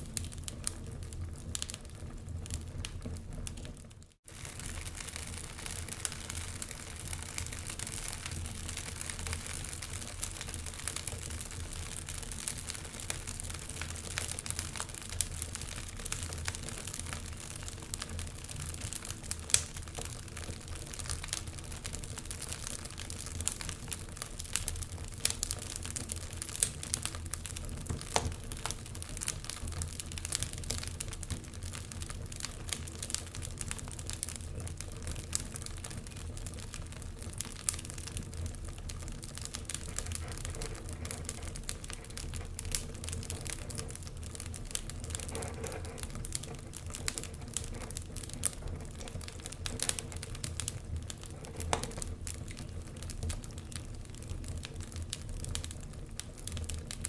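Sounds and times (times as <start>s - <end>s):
low rumble of flame: 0.0s - 57.0s
wood fire crackling: 0.0s - 57.0s.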